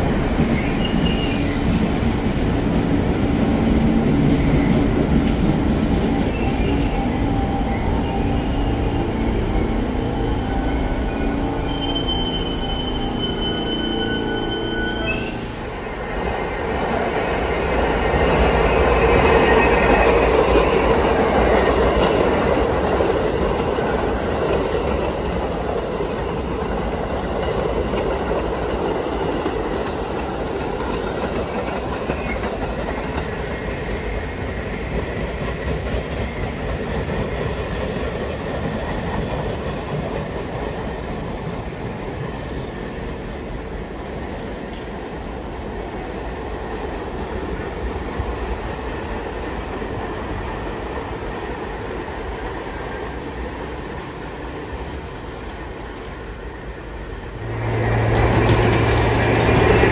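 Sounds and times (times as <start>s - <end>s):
subway train wheels clattering: 0.0s - 59.9s.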